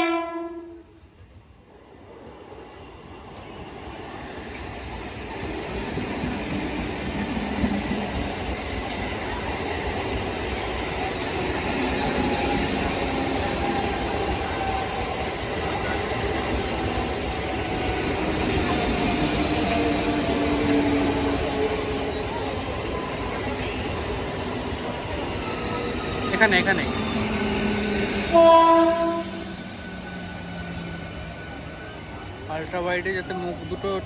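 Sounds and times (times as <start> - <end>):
train running past on tracks: 0.0 - 34.0.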